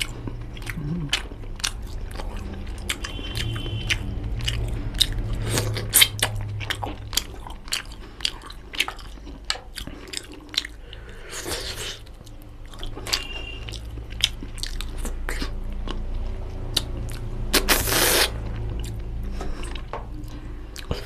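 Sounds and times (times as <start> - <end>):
person chewing wetly: 0.0 - 16.1, 16.7 - 21.0.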